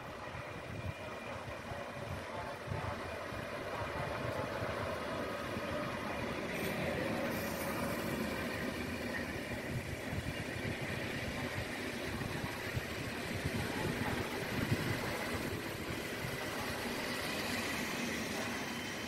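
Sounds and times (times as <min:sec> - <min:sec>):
train coaches rumbling on rails: 0:00.0 - 0:19.0.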